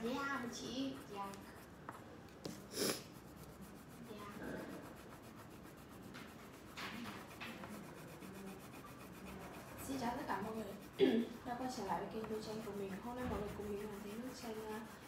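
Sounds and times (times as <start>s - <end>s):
crayon scratching on paper: 0.0s - 15.0s.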